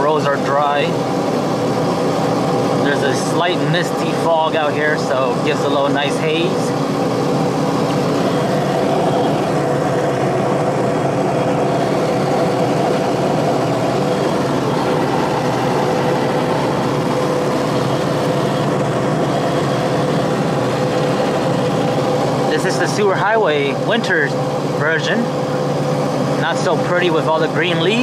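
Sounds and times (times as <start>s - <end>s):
engine and tyre drone: 0.0s - 28.0s
steady hum tones: 0.0s - 28.0s.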